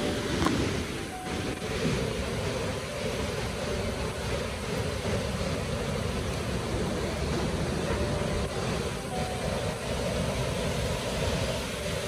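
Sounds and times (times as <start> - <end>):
river rushing: 0.0 - 12.0
wind buffeting microphone: 0.0 - 12.0.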